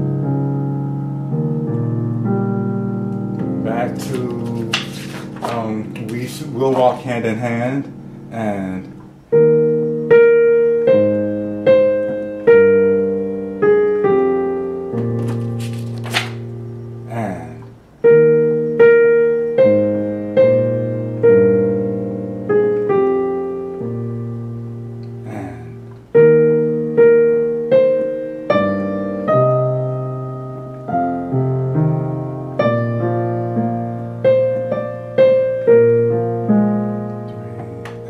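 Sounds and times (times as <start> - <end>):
slow piano chords: 0.0 - 38.0.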